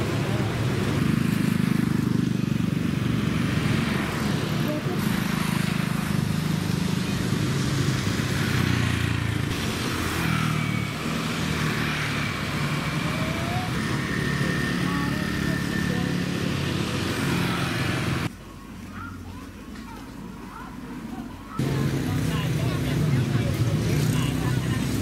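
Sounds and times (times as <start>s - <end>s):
motorbike and car engines: 0.0s - 18.3s, 20.5s - 25.0s
scooters passing: 0.0s - 25.0s.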